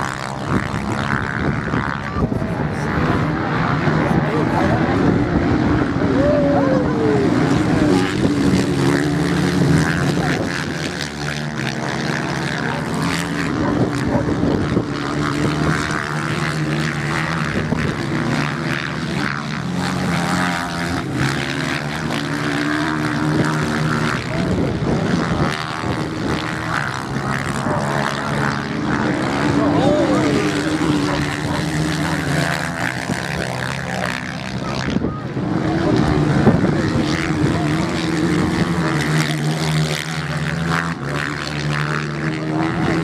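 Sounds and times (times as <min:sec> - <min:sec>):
off-road motorcycles racing: 0:00.0 - 0:43.0.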